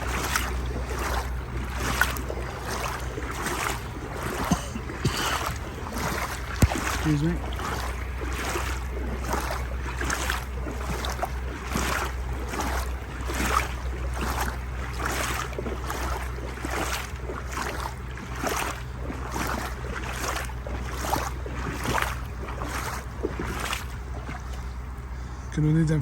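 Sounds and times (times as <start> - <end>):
floodwater surging: 0.0 - 26.0.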